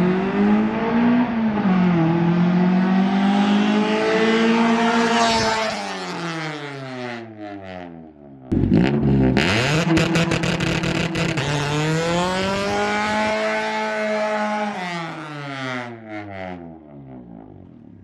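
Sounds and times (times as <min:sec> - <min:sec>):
car engine accelerating: 0:00.0 - 0:07.8, 0:08.5 - 0:18.0.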